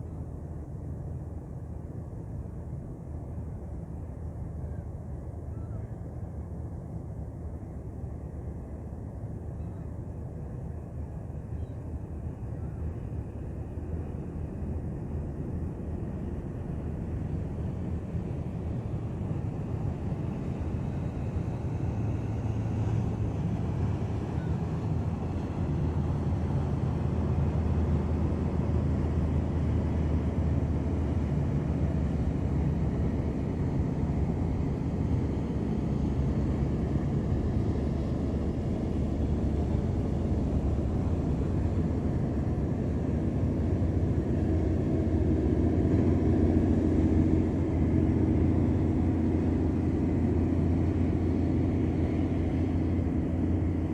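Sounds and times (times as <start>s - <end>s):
ship engine droning: 8.2s - 53.9s.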